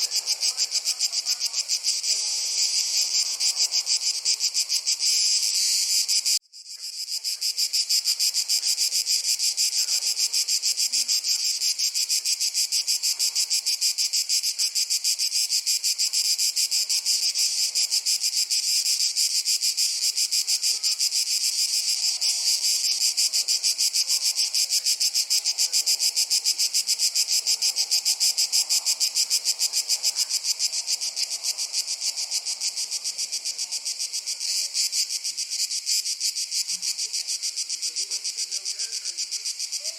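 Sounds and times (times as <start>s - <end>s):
insect chorus chirring: 0.0s - 39.9s.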